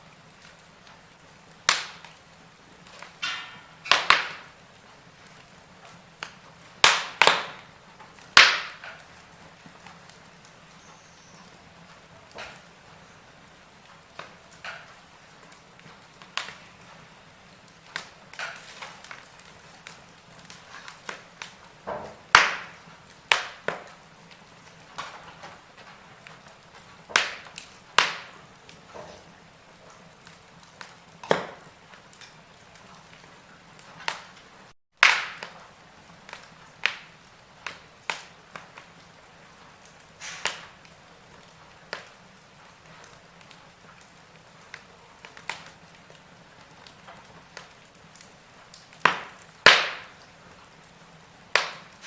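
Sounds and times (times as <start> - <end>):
faint steady hiss: 0.0 - 52.0
wood fire crackling and popping: 0.0 - 52.0.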